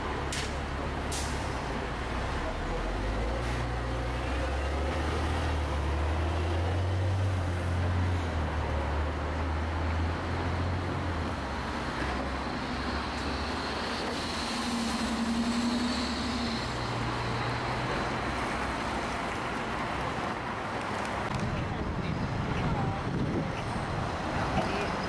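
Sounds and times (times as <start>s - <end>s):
bus driving past: 0.0s - 25.0s
bus engine whine: 0.0s - 25.0s
city street traffic: 0.0s - 25.0s.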